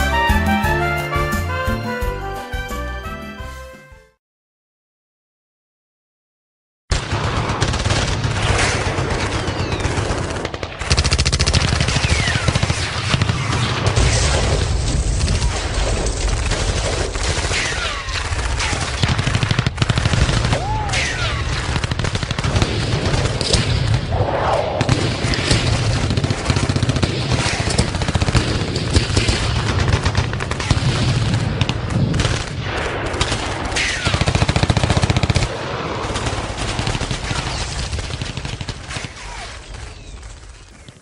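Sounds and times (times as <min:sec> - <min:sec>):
rapid machine-gun fire: 0:06.9 - 0:24.1, 0:24.8 - 0:41.0.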